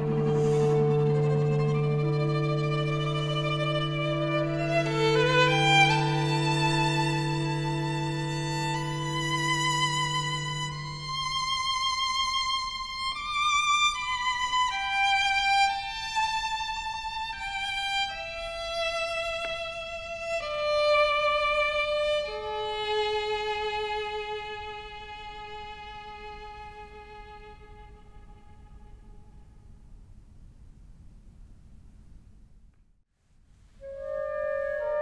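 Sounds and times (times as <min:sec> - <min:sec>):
solo violin melody: 0:00.0 - 0:29.6.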